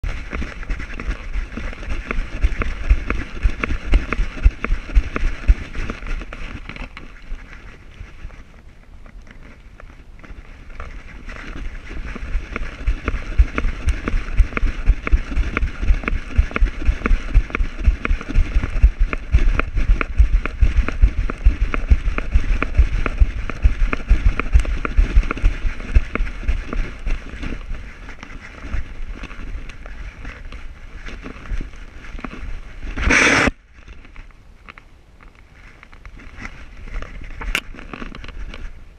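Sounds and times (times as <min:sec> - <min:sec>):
rhythmic thumping of jostled camera: 0:00.0 - 0:08.6, 0:10.2 - 0:34.2
camera scraping through leaves: 0:00.0 - 0:38.9
rush of wind: 0:00.0 - 0:38.9.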